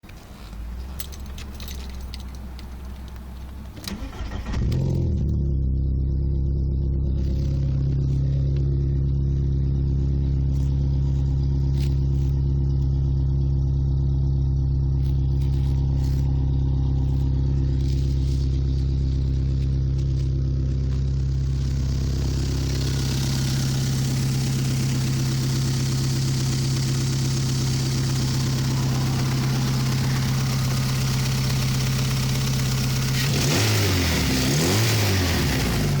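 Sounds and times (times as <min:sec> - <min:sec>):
car engine starting and idling: 0:00.0 - 0:36.0.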